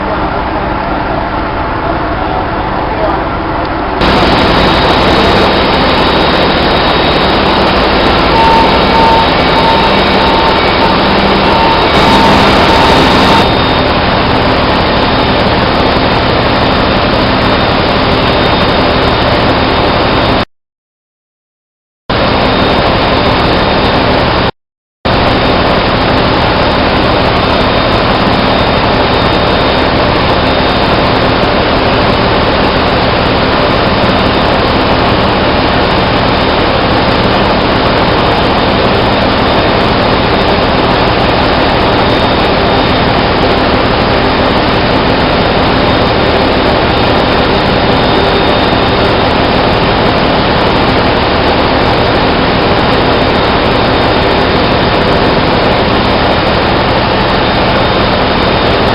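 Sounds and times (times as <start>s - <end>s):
loud machinery din: 0.0s - 20.4s, 25.1s - 58.9s.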